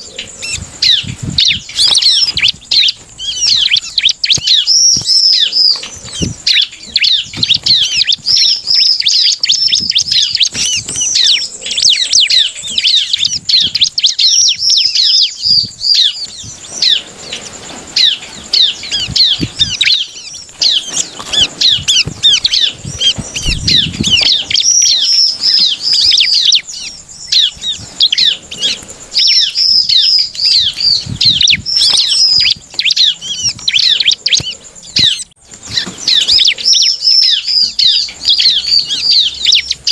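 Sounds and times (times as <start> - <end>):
bird chattering song: 0.0 - 39.9
wings fluttering: 0.0 - 39.9.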